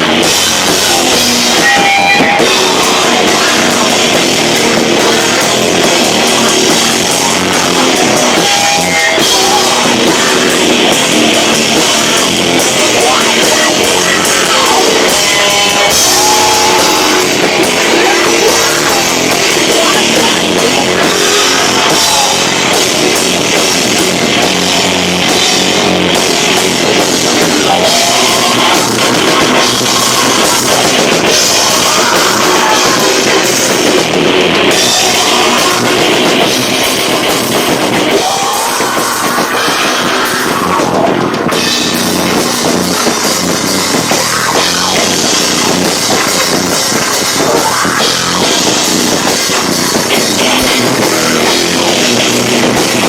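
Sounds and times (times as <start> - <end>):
distorted live rock band: 0.0 - 53.0.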